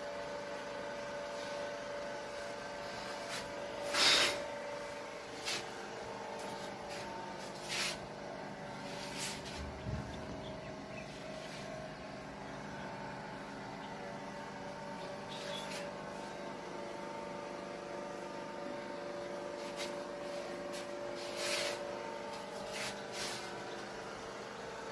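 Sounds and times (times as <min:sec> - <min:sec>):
machine hum with whining tones: 0:00.0 - 0:24.9.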